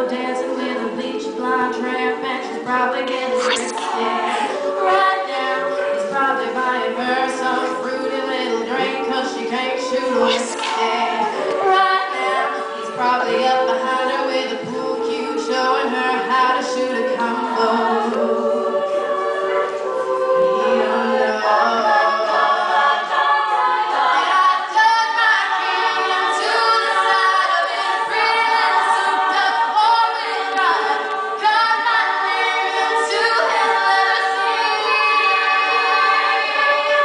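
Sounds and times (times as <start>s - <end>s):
woman singing lead: 0.0s - 37.0s
women singing backing harmonies: 0.0s - 37.0s.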